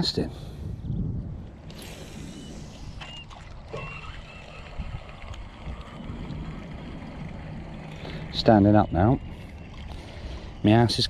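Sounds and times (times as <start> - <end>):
water around boat: 0.0 - 11.0
wind: 0.0 - 11.0.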